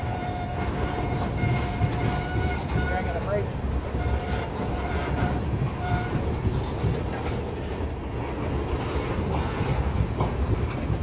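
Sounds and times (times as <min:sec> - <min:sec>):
train wheels rumbling on rail: 0:00.0 - 0:11.0
wheels clacking on rail joints: 0:00.0 - 0:11.0.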